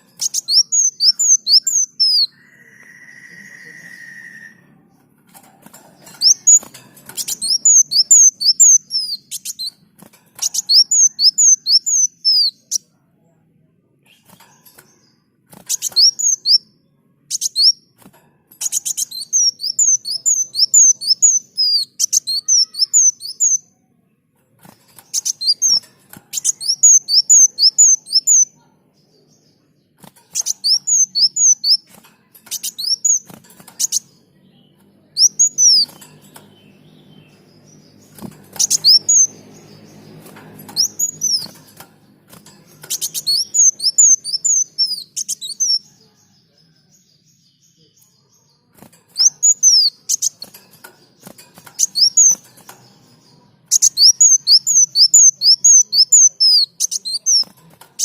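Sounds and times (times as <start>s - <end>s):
small bird singing high chirps: 0.0s - 58.0s.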